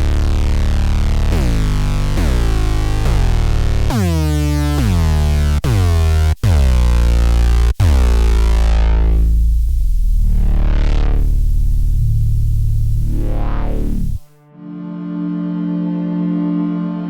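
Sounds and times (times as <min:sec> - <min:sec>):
deep bass synth notes: 0:00.0 - 0:14.3.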